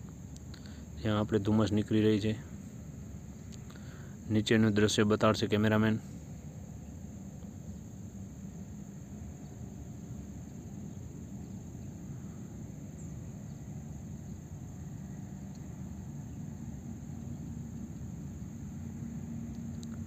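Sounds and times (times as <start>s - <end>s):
gondola cabin rumble and hiss: 0.0s - 20.0s.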